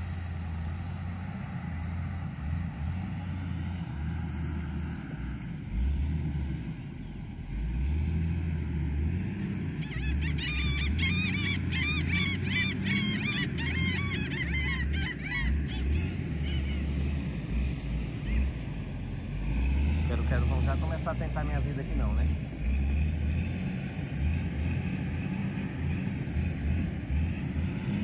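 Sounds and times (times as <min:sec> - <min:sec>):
flock of birds chirping: 0:00.0 - 0:28.0.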